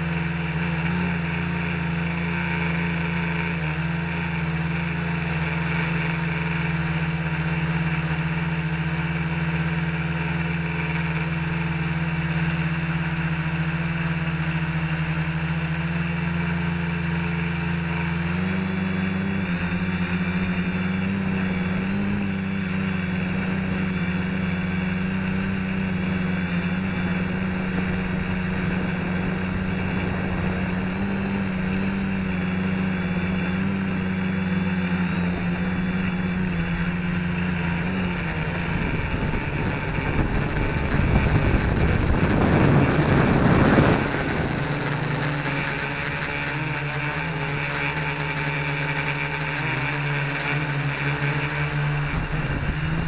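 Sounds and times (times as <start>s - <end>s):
drone propellers droning: 0.0s - 53.0s.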